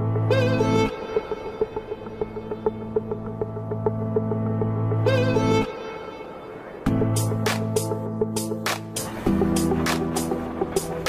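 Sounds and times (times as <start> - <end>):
bowed string melody: 0.0 - 11.0.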